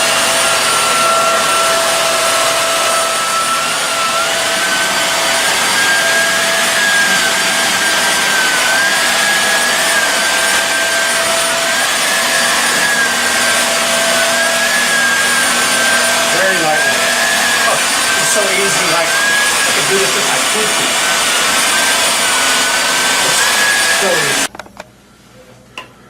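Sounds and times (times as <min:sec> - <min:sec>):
upright vacuum running on carpet: 0:00.0 - 0:24.5.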